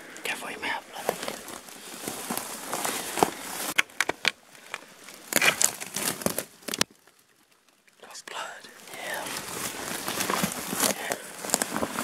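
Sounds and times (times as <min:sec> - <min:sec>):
footsteps through dry brush: 0:00.0 - 0:06.7, 0:08.4 - 0:12.0
leaves rustling: 0:00.0 - 0:12.0
twigs crackling and snapping: 0:00.0 - 0:12.0.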